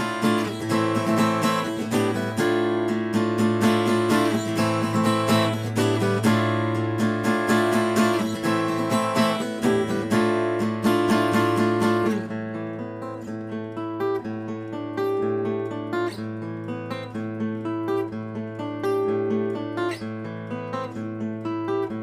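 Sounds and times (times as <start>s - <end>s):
strummed acoustic guitar music: 0.0s - 22.0s.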